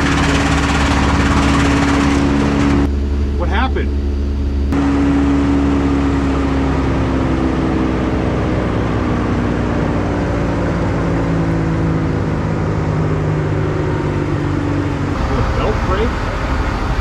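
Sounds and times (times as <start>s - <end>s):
wood chipper engine running: 0.0s - 17.0s.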